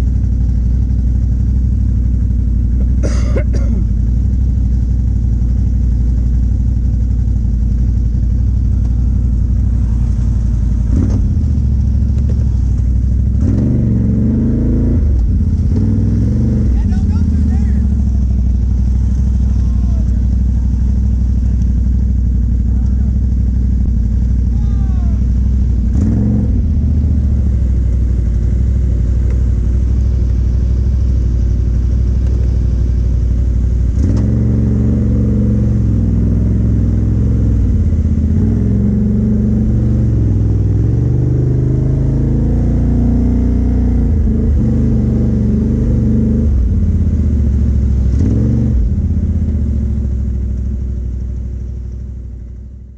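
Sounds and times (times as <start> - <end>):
atv engine revving: 0.0 - 52.0.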